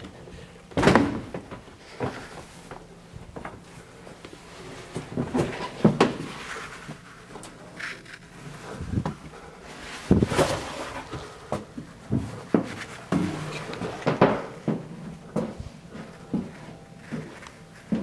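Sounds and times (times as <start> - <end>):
footsteps: 1.4 - 18.0.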